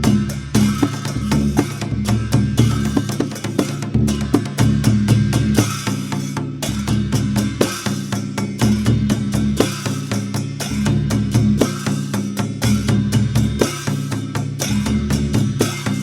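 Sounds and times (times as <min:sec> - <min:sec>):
barrel drum fast rhythm: 0:00.0 - 0:16.0.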